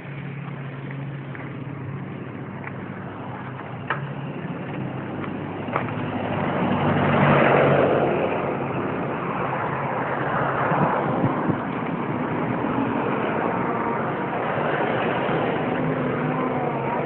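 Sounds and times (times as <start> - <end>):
vehicle engine passing: 0.0 - 17.0.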